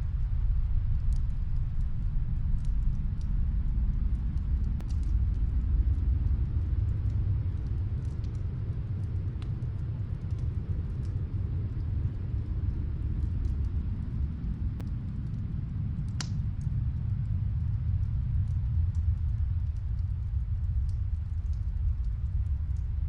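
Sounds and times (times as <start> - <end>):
snowstorm wind rumble: 0.0 - 23.0
wood fire crackling: 0.2 - 23.0.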